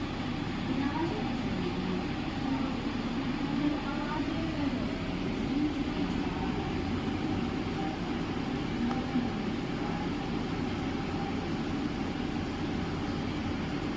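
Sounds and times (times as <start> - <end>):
cooling fan whirring: 0.0 - 13.9
faint hum: 0.0 - 13.9.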